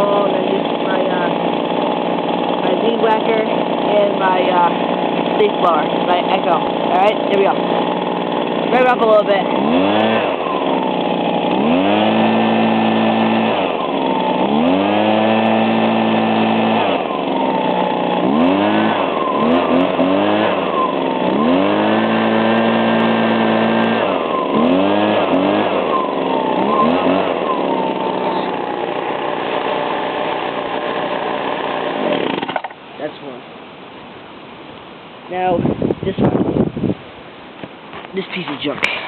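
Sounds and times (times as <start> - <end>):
two-stroke engine revving: 0.0 - 32.8.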